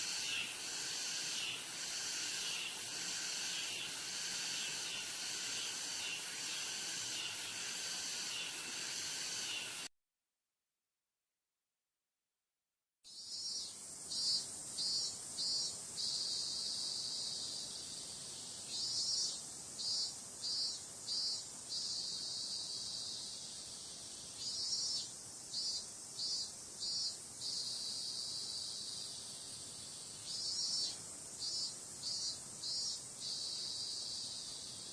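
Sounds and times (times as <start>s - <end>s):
cicadas buzzing: 0.0s - 9.9s, 13.1s - 34.9s.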